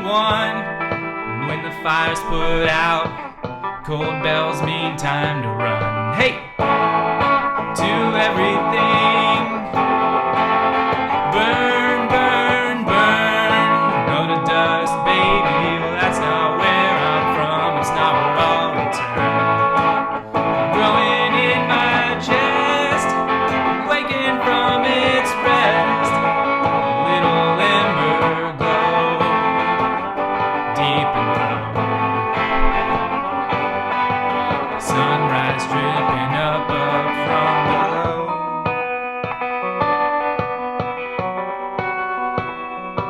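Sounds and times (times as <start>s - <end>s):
guitar-led song with singing: 0.0s - 43.0s.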